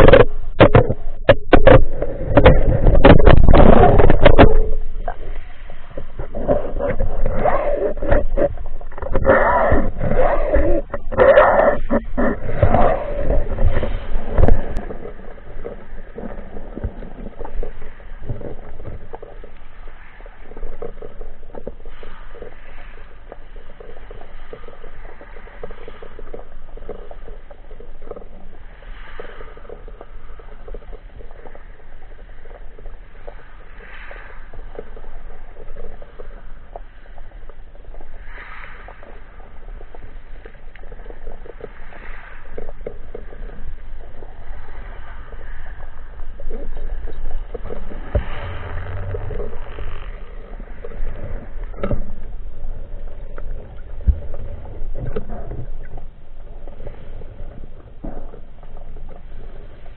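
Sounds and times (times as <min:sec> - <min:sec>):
underwater rumble of moving water: 0:00.0 - 0:59.9.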